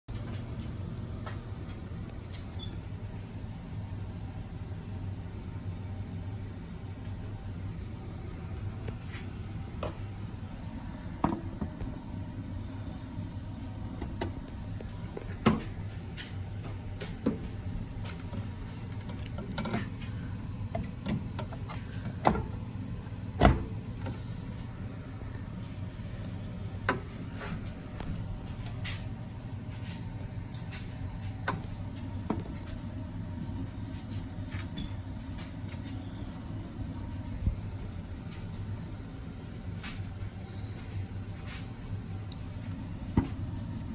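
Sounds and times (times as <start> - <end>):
steady low hum: 0.1 - 43.9.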